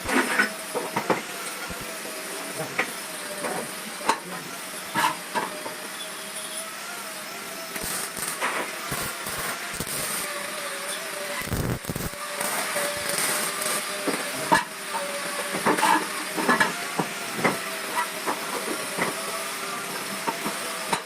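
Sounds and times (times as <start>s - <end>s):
welding hiss: 0.0s - 21.0s.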